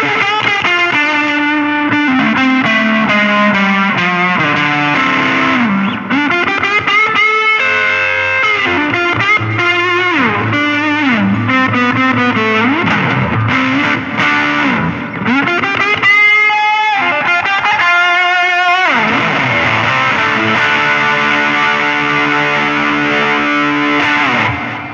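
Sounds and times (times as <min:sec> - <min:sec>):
fuzzed electric guitar lead: 0:00.0 - 0:24.9.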